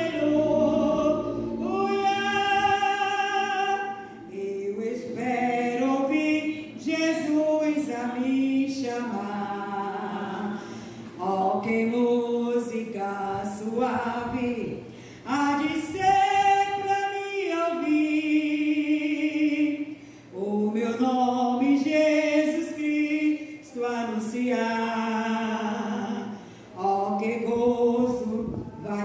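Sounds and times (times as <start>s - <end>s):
woman singing a hymn unaccompanied: 0.0s - 29.0s.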